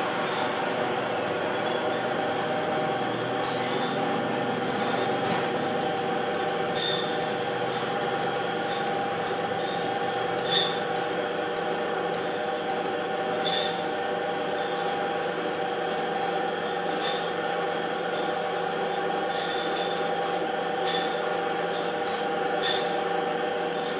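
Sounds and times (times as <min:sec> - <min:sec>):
constant whine: 0:00.0 - 0:23.0.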